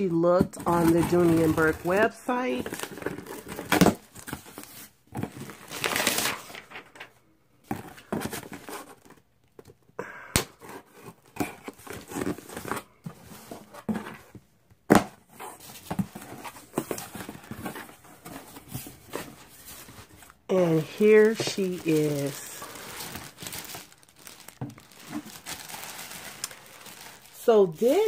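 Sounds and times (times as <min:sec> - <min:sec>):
cardboard flaps rustling: 0:00.4 - 0:09.2, 0:10.6 - 0:28.0.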